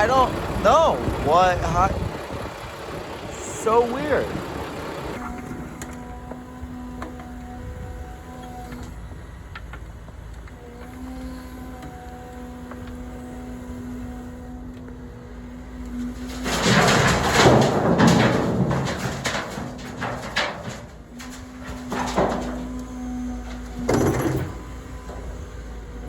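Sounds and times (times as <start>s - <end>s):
rattling rumble with knocks: 0.0s - 13.6s, 14.8s - 26.0s
diesel engine humming: 0.0s - 26.0s.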